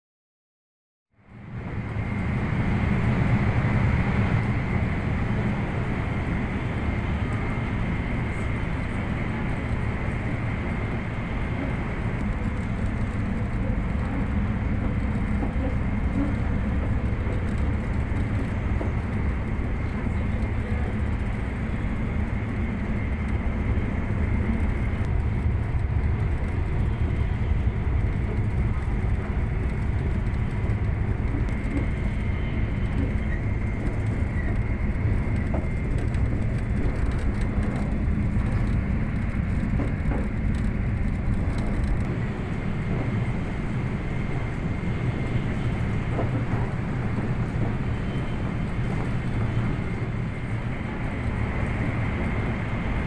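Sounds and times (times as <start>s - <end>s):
train interior rumble: 1.1s - 53.0s.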